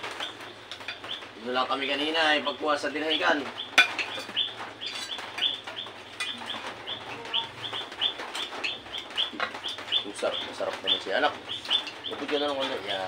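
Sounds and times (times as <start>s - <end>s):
small bird chirping: 0.1s - 2.0s, 2.9s - 13.0s.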